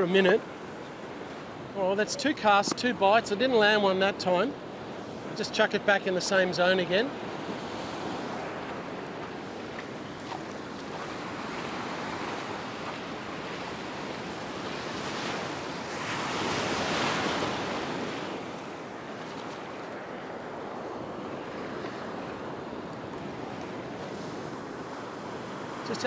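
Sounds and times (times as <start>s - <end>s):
ocean surf on beach: 0.0s - 26.0s.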